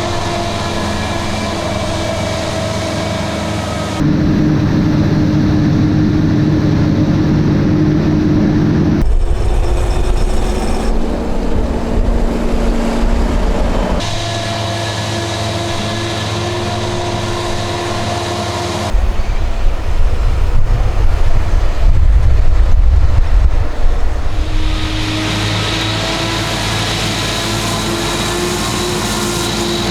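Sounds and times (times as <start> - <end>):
heavy low rumble: 0.0 - 28.5
heavy diesel engines running: 0.0 - 29.9.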